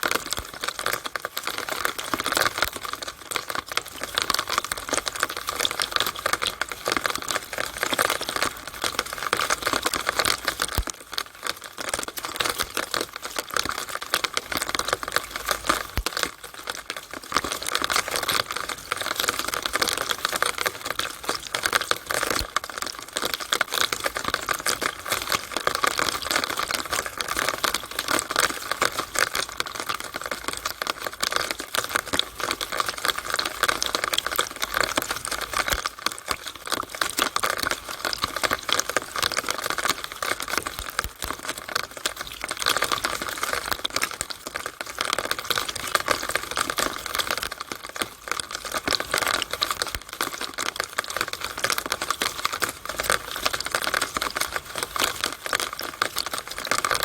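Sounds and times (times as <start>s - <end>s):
rainwater running through a downspout: 0.0s - 57.0s.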